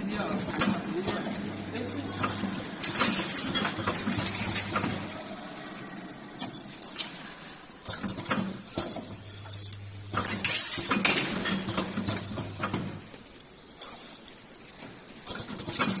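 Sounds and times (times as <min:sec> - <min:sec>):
machine electrical hum: 0:00.0 - 0:16.0.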